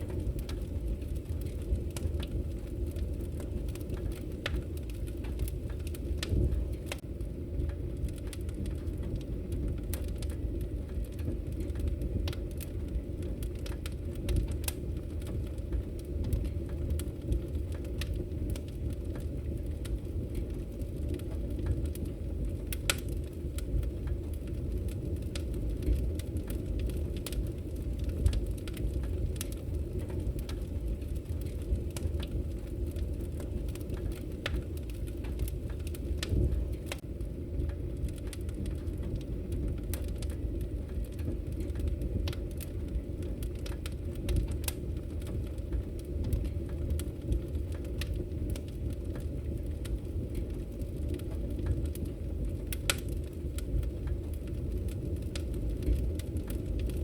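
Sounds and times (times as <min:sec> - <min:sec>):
fire crackles and pops: 0:00.0 - 0:57.0
low rush of flames: 0:00.0 - 0:57.0.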